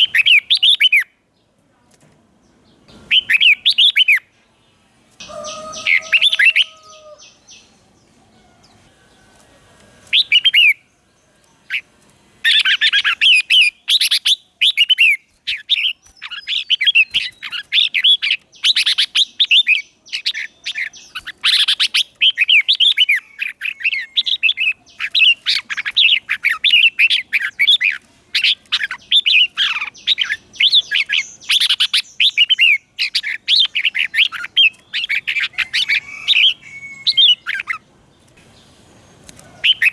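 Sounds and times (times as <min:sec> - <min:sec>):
bird warbling and chattering: 0:02.9 - 0:04.3, 0:05.2 - 0:09.4, 0:10.0 - 0:10.8, 0:11.5 - 0:38.4, 0:39.1 - 0:39.9
bird call: 0:05.2 - 0:09.4, 0:10.1 - 0:10.9, 0:11.6 - 0:37.8, 0:38.6 - 0:39.9.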